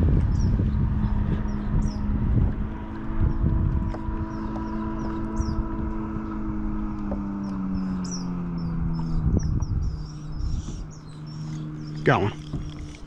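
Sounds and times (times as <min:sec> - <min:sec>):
small birds chirping: 0:00.0 - 0:02.3, 0:03.2 - 0:13.0
motorboat engine droning: 0:00.0 - 0:13.0.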